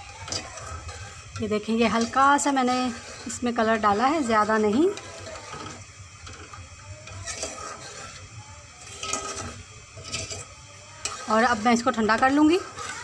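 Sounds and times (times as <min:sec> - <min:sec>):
metal spoon scraping a metal pot: 0:00.0 - 0:13.0.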